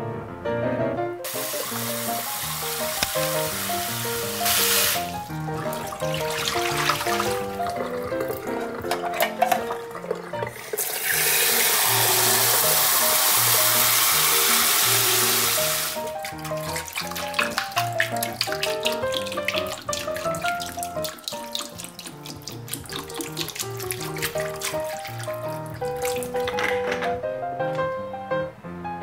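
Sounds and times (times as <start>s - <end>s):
background music: 0.0s - 29.0s
tap water pouring: 1.2s - 27.1s.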